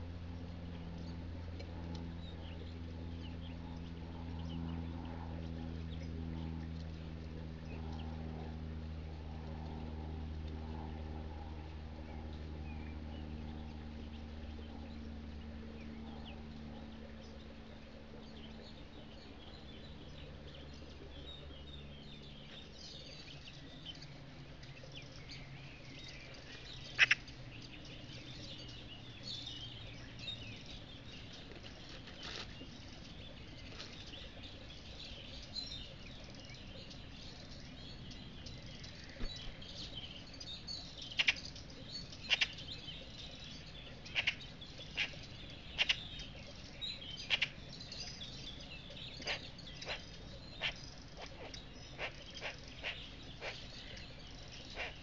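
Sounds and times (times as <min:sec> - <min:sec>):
small birds calling: 0:00.0 - 0:55.0.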